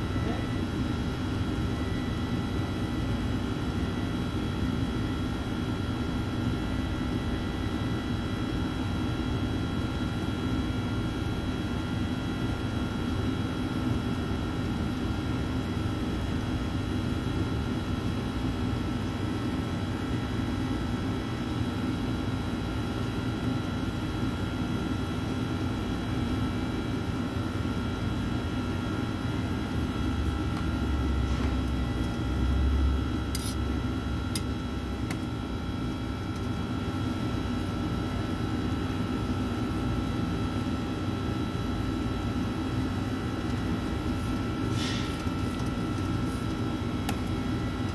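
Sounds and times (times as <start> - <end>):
fans and machinery humming: 0.0 - 47.9.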